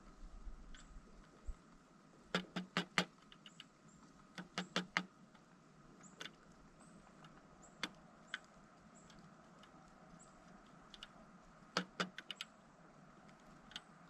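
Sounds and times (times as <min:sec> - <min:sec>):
woodpecker tapping: 0:02.3 - 0:14.0.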